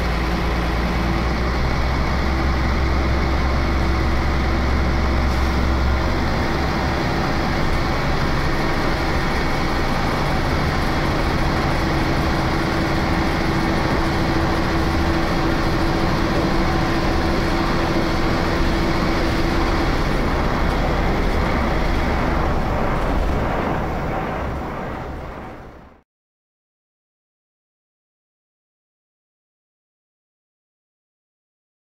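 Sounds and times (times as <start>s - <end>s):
railbus diesel engine drone: 0.0s - 26.0s
steady hum: 0.0s - 26.0s.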